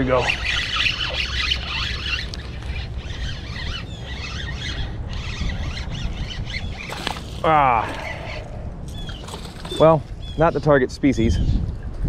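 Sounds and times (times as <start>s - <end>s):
high squeaks and chirps: 0.0s - 10.6s
wind rumble on microphone: 1.6s - 12.0s.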